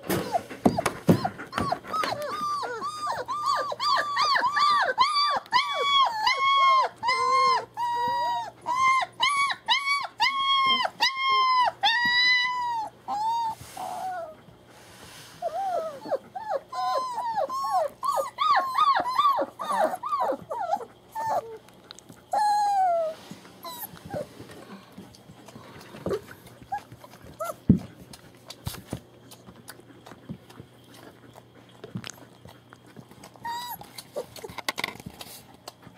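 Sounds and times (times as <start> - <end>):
puppies whining: 0.0 - 35.9.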